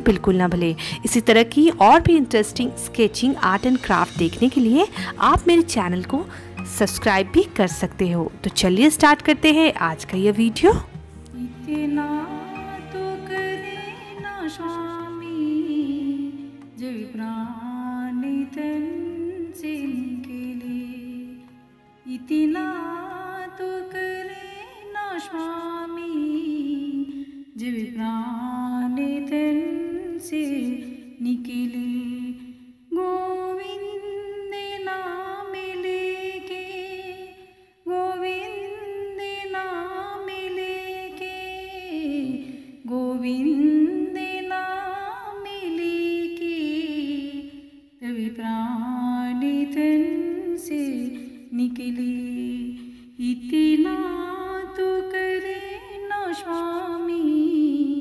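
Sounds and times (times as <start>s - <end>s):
woman singing slow melody: 10.4s - 58.0s.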